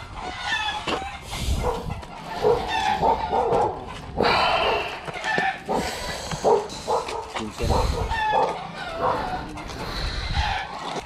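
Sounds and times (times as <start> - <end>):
dogs barking: 1.0 - 10.6.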